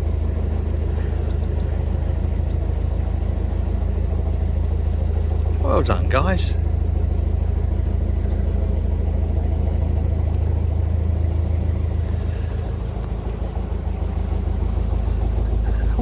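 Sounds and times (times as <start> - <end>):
boat diesel engine rumbling: 0.0 - 16.0.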